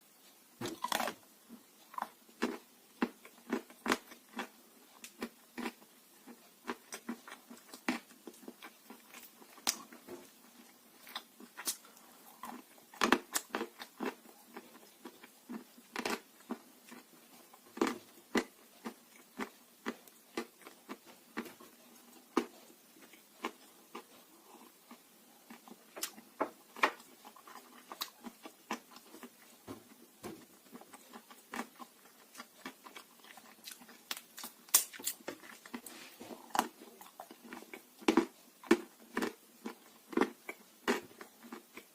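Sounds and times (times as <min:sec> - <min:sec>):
dry clay crunching in chewing: 0:00.6 - 0:01.2, 0:01.9 - 0:29.4, 0:30.3 - 0:41.9.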